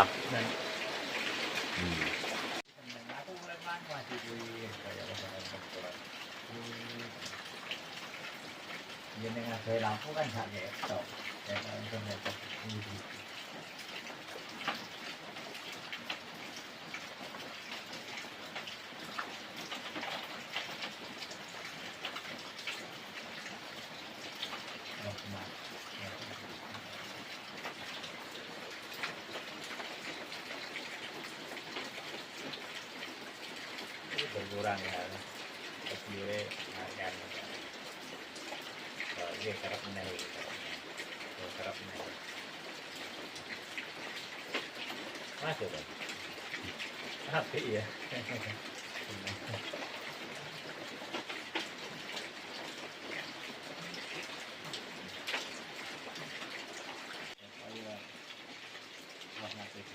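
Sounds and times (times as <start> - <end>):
rain falling: 0.0 - 59.9
raindrop ticks: 0.0 - 59.9.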